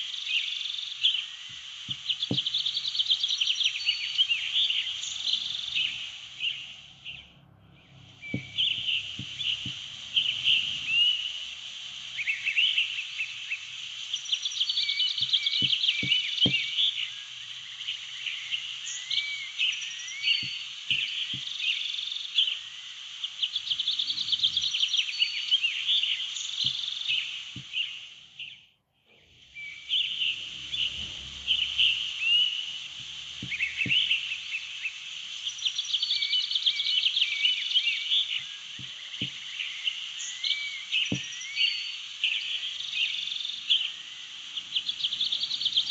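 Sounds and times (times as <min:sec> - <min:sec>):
birds chirping and twittering: 0:00.0 - 0:45.9.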